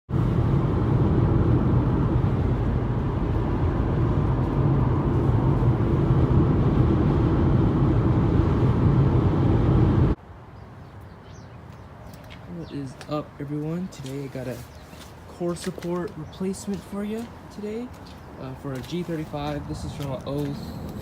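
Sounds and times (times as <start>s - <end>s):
car engine and road noise: 0.1s - 21.0s.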